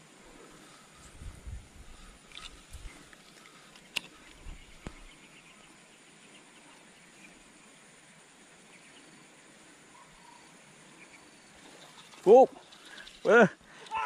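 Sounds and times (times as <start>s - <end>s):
birds: 0.0s - 14.0s
faint insects: 0.0s - 14.0s.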